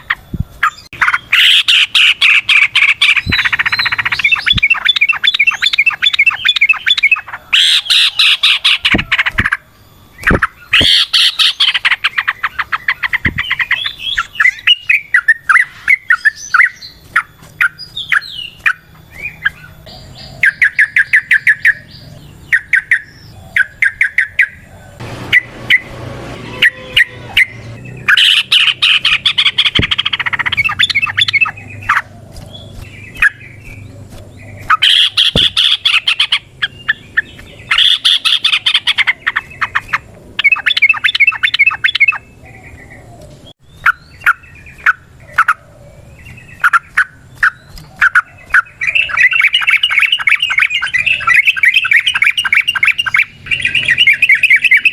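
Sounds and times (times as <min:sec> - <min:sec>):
bird chattering song: 0:00.0 - 0:54.9.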